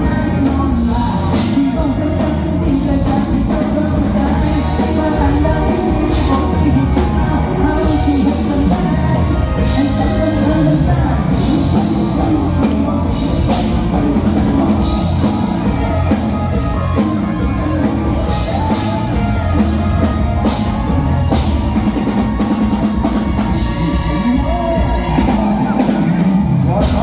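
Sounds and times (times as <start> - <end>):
drum kit beat: 0.0 - 27.0
live band playing: 0.0 - 27.0.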